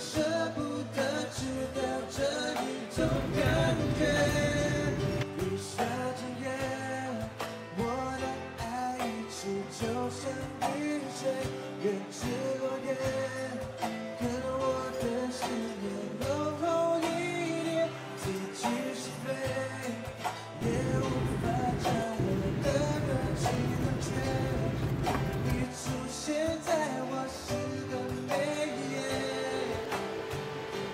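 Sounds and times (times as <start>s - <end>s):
song with singing over guitar: 0.0s - 30.9s.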